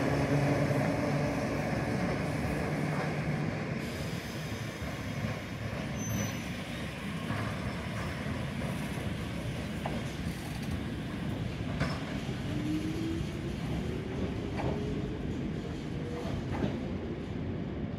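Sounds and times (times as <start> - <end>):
electric locomotive rumbling: 0.0 - 17.9.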